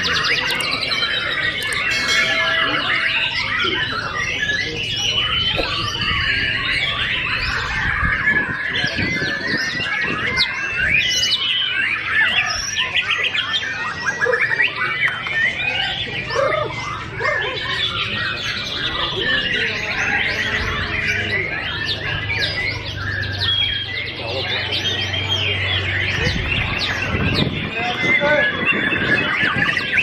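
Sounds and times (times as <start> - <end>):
bird singing whistles and trills: 0.0 - 30.0
other songbirds singing: 0.0 - 30.0.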